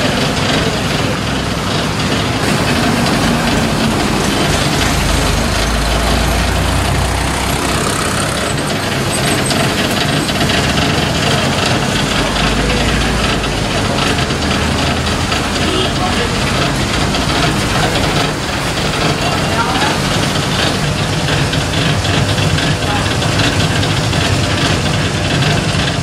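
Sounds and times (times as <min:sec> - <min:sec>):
mechanical rumble: 0:00.0 - 0:26.0.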